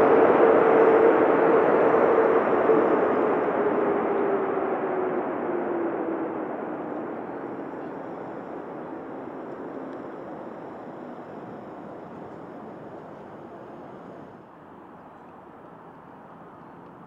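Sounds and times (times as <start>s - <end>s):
jet engines rushing: 0.0s - 14.5s.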